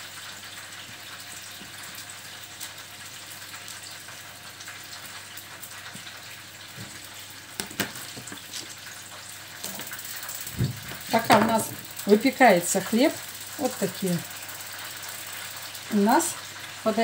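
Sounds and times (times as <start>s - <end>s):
pies sizzling in hot oil: 0.0s - 17.0s.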